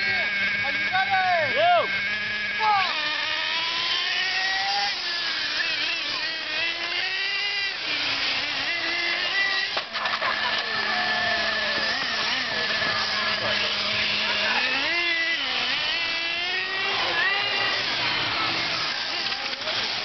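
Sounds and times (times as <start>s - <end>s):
rc truck motors whining: 0.0s - 20.0s.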